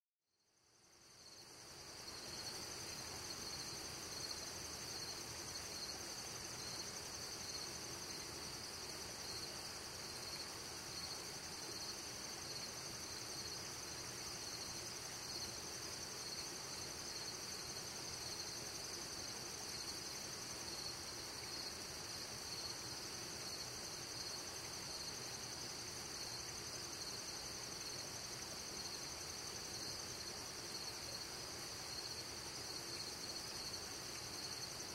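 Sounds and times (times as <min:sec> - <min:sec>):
crickets and insects trilling: 0:00.8 - 0:34.9.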